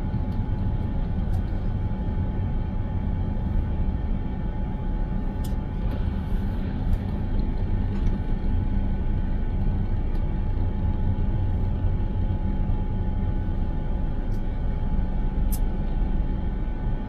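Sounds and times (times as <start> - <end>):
thin steady hum: 0.0 - 17.0.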